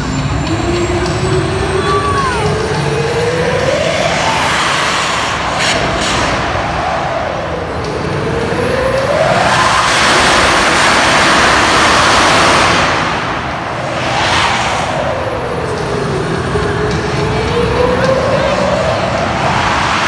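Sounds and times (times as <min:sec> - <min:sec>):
jet engine roar: 0:00.0 - 0:20.0
jet engine whine: 0:00.0 - 0:20.0.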